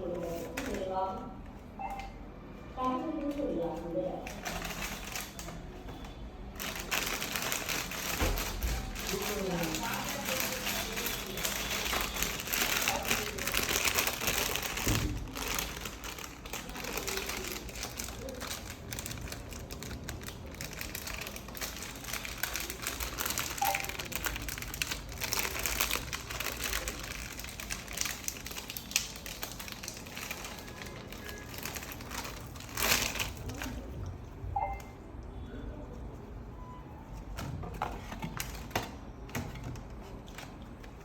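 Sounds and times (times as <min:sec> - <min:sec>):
plastic packaging crinkling: 0:00.0 - 0:01.1, 0:03.2 - 0:34.4, 0:37.2 - 0:41.0.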